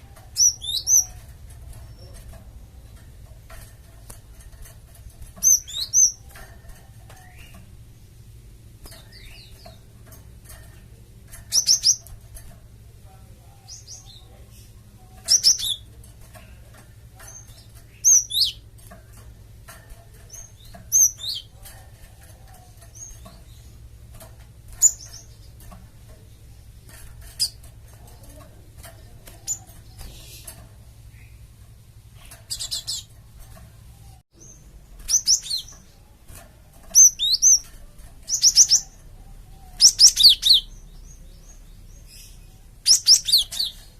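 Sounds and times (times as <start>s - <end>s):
bird chirping calls: 0.0s - 3.7s, 4.4s - 7.8s, 8.8s - 43.9s
faint low hum: 0.0s - 43.9s.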